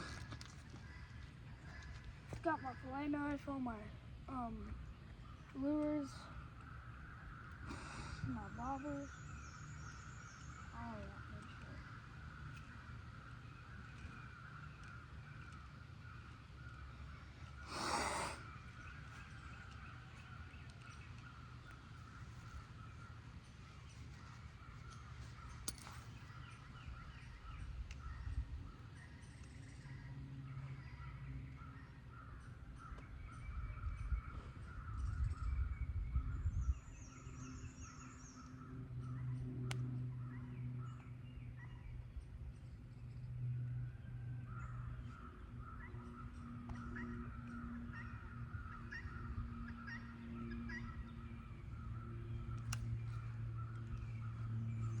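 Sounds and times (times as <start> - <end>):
birds calling: 0.0 - 55.0.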